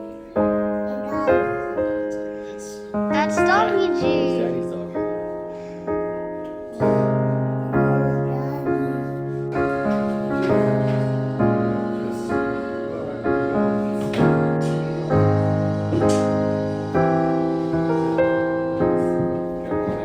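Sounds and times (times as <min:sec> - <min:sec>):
soft piano chords: 0:00.0 - 0:20.0.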